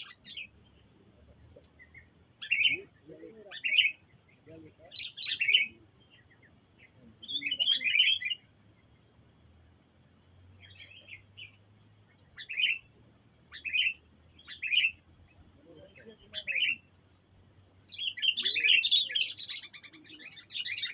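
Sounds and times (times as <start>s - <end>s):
bird chirpy calls: 0.0s - 9.3s, 10.4s - 20.9s.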